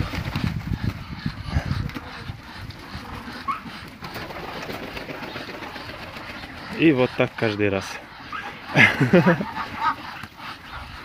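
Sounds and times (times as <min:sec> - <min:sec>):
duck wings flapping: 0:00.0 - 0:11.0.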